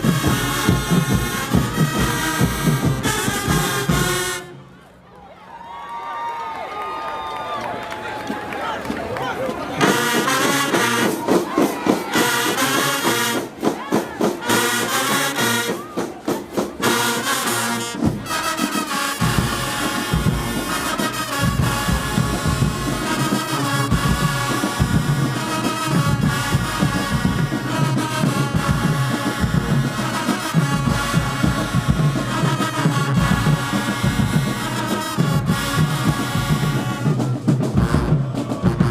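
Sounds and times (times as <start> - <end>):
drums: 0.0 - 4.5, 8.2 - 38.9
marching band playing: 0.0 - 4.9, 8.2 - 38.9
horns playing melody: 0.0 - 5.0, 9.7 - 38.9.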